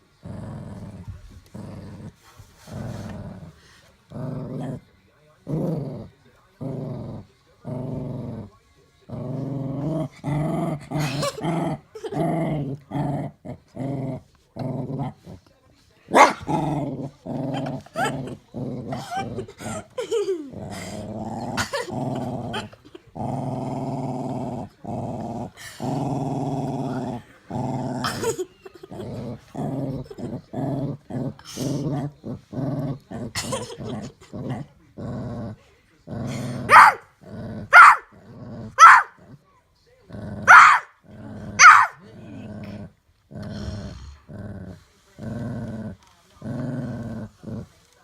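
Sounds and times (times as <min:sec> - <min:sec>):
dog growling: 0:00.0 - 0:15.5, 0:16.1 - 0:47.9.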